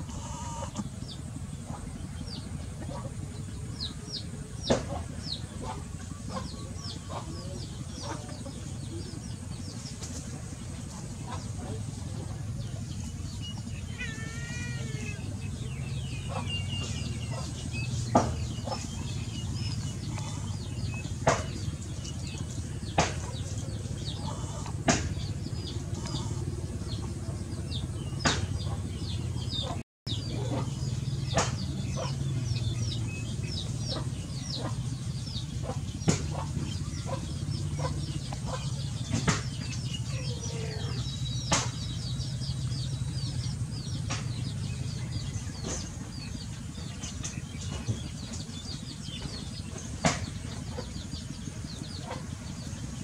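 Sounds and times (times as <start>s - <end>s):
birds chirping: 0.0s - 53.0s
steady low hum: 0.0s - 53.0s.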